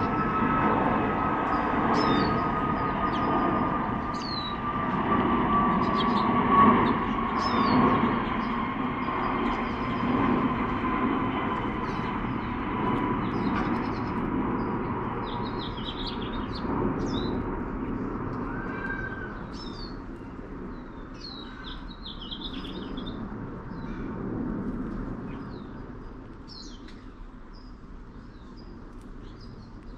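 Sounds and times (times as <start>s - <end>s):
small birds chirping: 0.0s - 24.2s, 25.2s - 29.9s
jet engine rumble: 0.0s - 29.9s.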